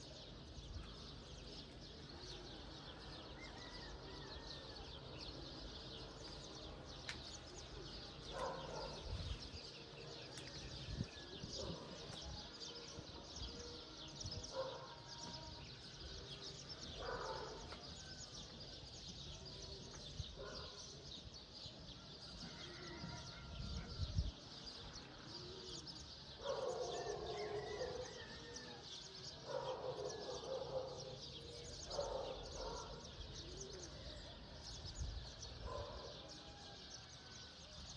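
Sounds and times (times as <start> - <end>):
small birds chirping: 5.2 - 36.2.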